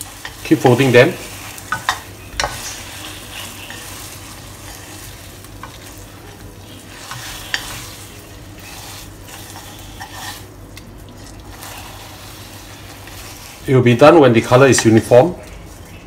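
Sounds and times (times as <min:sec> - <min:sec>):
dough sizzling in oil: 0:00.0 - 0:16.0.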